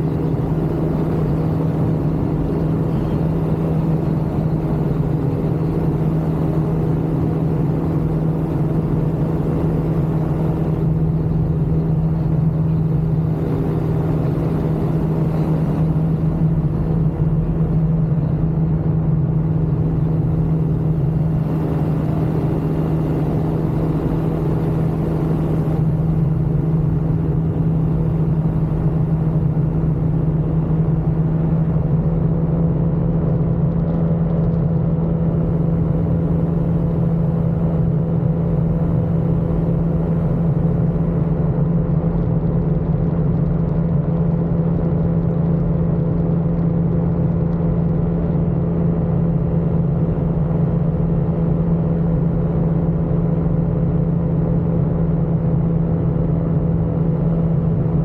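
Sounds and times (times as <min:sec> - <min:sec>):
aircraft engine droning: 0:00.0 - 0:58.0.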